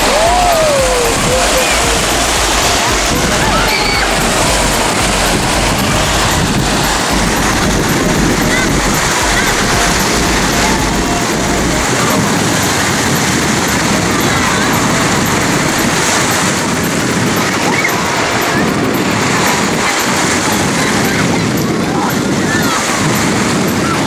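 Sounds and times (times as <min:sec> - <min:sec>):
faint voices of people: 0:00.0 - 0:24.0
small waves washing in: 0:00.0 - 0:24.0.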